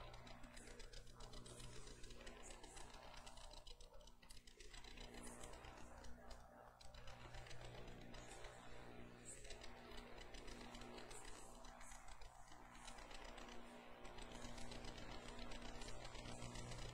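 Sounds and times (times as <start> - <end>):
faint clicks: 0.0 - 16.9
low electrical hum: 0.0 - 16.9.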